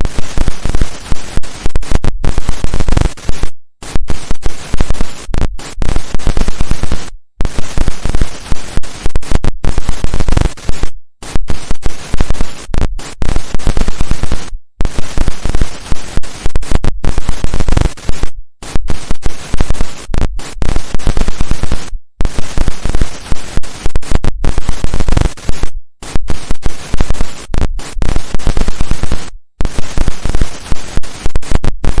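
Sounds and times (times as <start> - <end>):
television static hiss: 0.0 - 12.6, 13.2 - 18.2, 20.6 - 25.6, 26.2 - 32.0.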